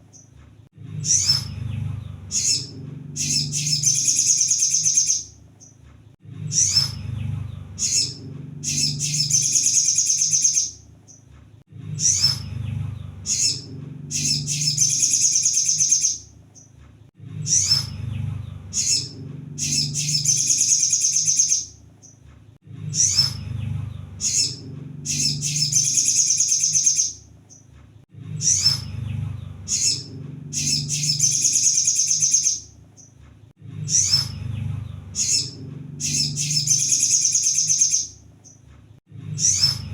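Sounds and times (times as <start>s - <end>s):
low steady hum: 0.0s - 26.4s, 27.1s - 31.6s, 32.6s - 37.3s
bird twittering and chirping: 0.9s - 5.8s, 6.4s - 11.3s, 11.9s - 16.8s, 17.4s - 22.2s, 22.9s - 27.7s, 28.4s - 33.2s, 33.8s - 38.6s, 39.4s - 39.9s.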